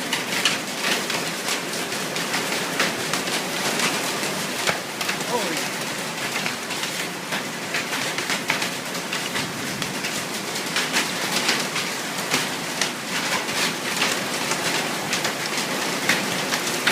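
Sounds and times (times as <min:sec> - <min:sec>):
hailstones striking: 0:00.0 - 0:16.9
rain hissing: 0:00.0 - 0:16.9.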